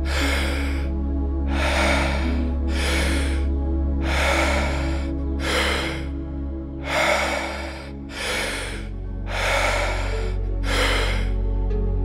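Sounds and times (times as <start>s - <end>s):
deep breathing: 0.0s - 12.0s
low ambient music drone: 0.0s - 12.0s.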